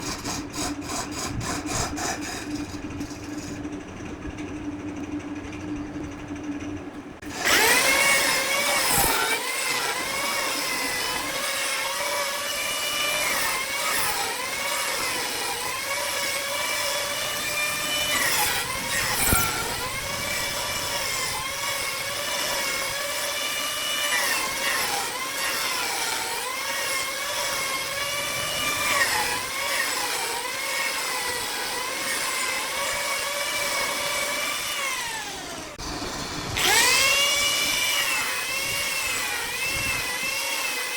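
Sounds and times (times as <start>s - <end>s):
power tool cutting wood: 0.0s - 3.6s, 7.2s - 40.9s.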